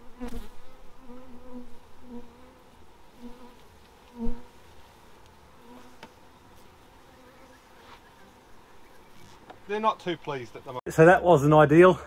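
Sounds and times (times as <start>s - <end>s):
bees buzzing: 0.0s - 10.8s.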